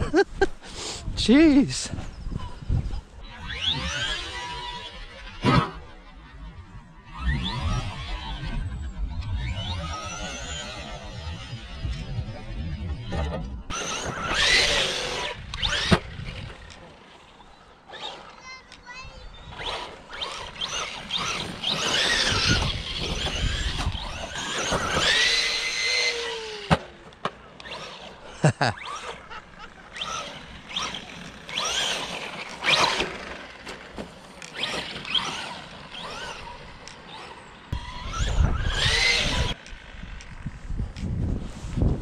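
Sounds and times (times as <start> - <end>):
electric motor whining: 2.0 - 17.1, 19.3 - 41.2.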